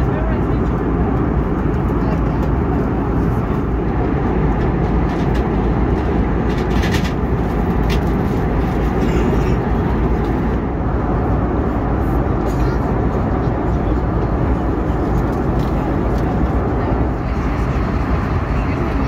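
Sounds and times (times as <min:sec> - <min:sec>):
aircraft engines rumbling: 0:00.0 - 0:19.0.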